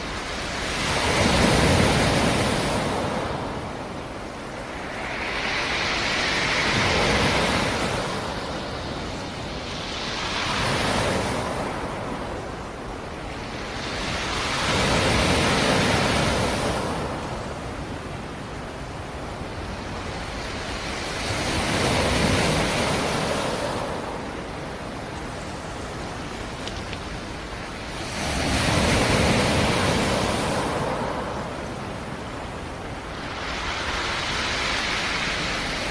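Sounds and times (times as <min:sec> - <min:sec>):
waves breaking on rocky shore: 0:00.0 - 0:35.9.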